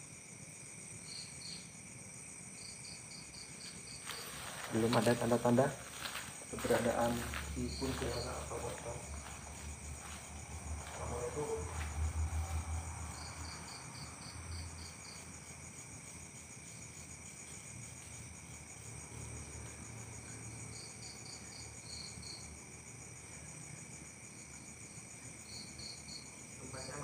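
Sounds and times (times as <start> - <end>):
cricket chirping in rapid pulses: 0.0 - 27.0
insects trilling: 0.0 - 27.0.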